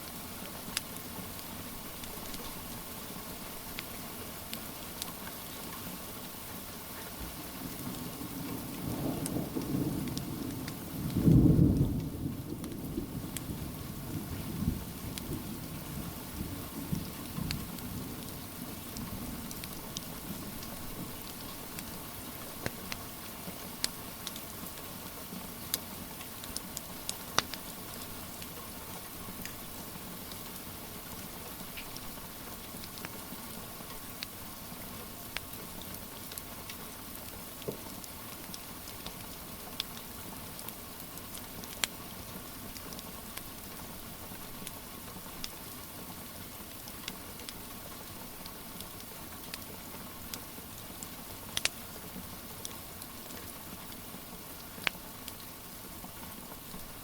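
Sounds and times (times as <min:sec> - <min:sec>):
wood fire crackling: 0:00.0 - 0:11.9, 0:14.9 - 0:57.0
steady rain hiss: 0:00.0 - 0:57.0.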